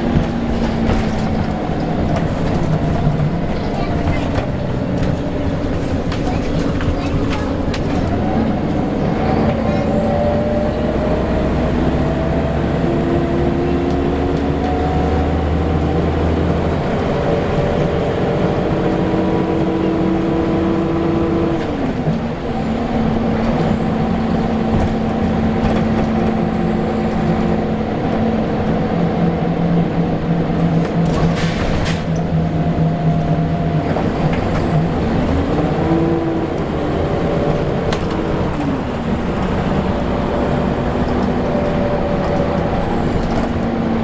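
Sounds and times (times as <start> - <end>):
bus engine running: 0.0 - 44.0.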